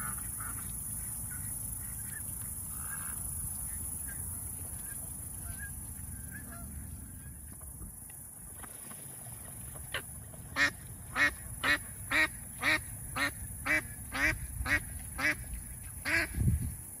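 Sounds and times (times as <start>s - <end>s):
waterfowl calling: 0.0s - 7.6s, 9.8s - 16.4s.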